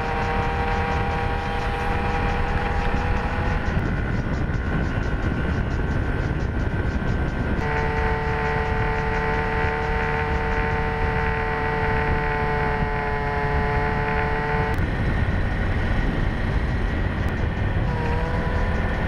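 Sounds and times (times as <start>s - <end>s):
motorcycle engine whine: 0.0s - 19.0s
wind rush on microphone: 0.0s - 19.0s.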